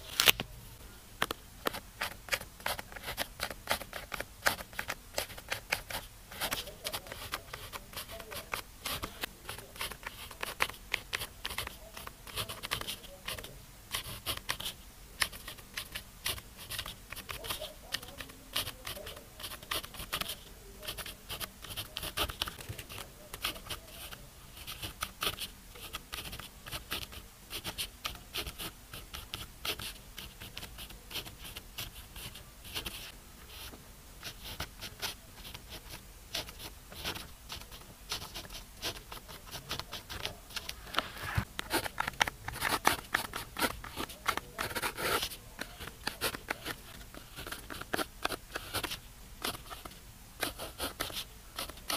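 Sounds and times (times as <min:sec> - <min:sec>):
pen scratching on paper: 0:01.6 - 0:51.9.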